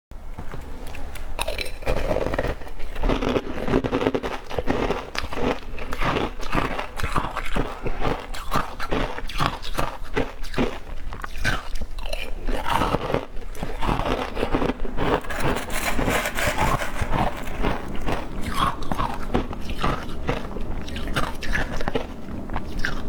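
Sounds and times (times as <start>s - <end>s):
ice being chewed: 0.9s - 23.0s.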